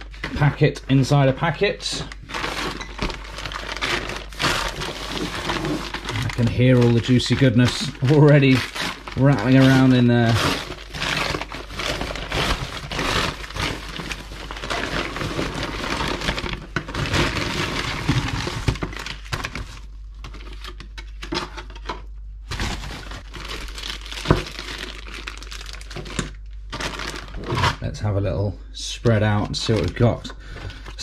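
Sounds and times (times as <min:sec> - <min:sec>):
packaging crinkling and rustling: 0:00.0 - 0:27.9, 0:29.0 - 0:31.0.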